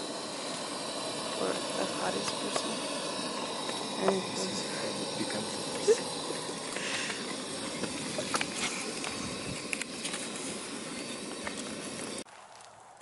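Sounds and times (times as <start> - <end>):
food sizzling on a stove: 0.0 - 12.3.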